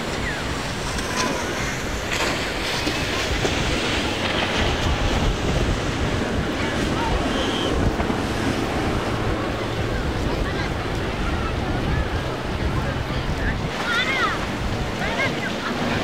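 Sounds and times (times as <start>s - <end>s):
boat engines rumbling: 0.0s - 16.0s
water: 0.0s - 16.0s
wind buffeting microphone: 0.0s - 16.0s.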